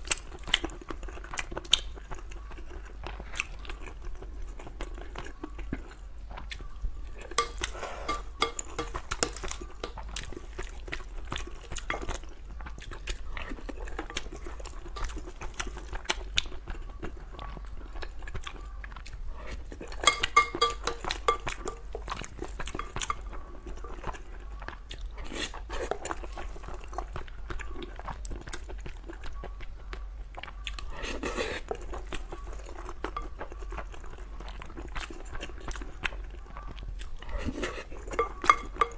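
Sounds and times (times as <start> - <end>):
close chewing and eating: 0.0 - 38.9.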